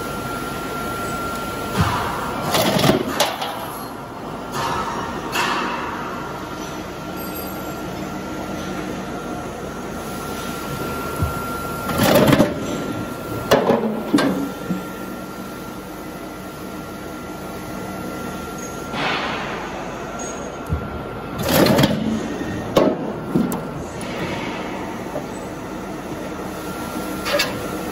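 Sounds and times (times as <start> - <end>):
roll forming machine humming: 0.0 - 27.9.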